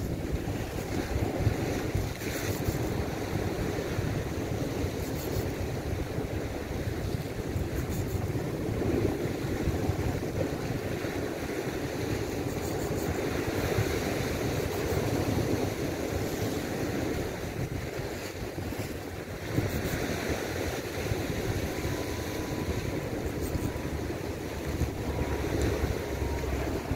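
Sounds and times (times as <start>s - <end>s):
sea surf against rocks: 0.0s - 26.9s
wind buffeting microphone: 0.0s - 26.9s.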